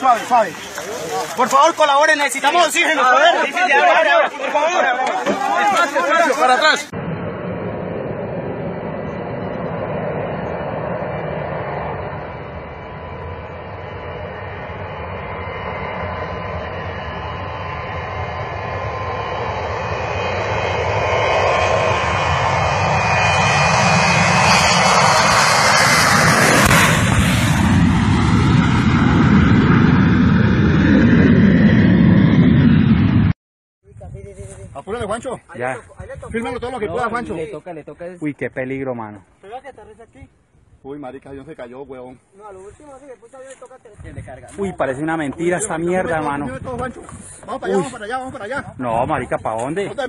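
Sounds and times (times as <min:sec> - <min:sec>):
jet aircraft passing overhead: 0:00.0 - 0:33.4, 0:41.3 - 0:50.0.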